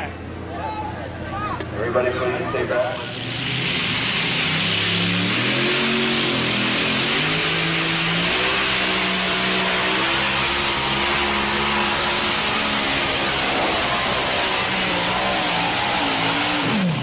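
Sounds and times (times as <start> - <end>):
tractor engine revving under load: 3.1 - 17.0.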